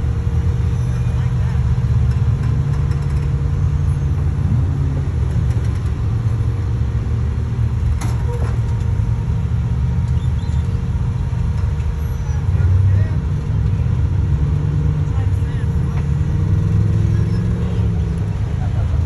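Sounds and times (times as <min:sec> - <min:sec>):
off-road vehicle engine rumbling: 0:00.0 - 0:19.0.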